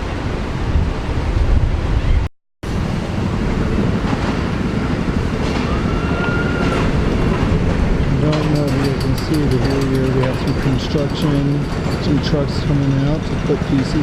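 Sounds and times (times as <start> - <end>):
steady outdoor rumble: 0.0 - 14.0
wind buffeting microphone: 0.0 - 14.0.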